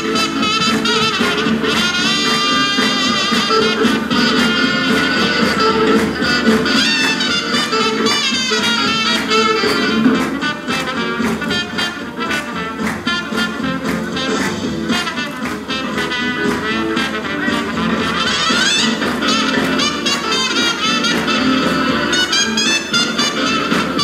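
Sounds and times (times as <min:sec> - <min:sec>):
steady drum beat: 0:00.0 - 0:24.0
trumpets and saxophones: 0:00.0 - 0:24.0
up-tempo swing music: 0:00.0 - 0:24.0.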